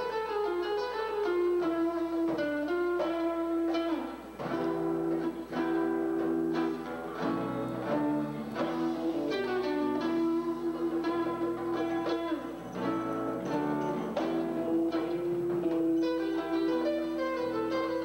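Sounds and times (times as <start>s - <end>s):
held instrument tones: 0.0s - 18.0s
plucked string melody: 0.0s - 18.0s.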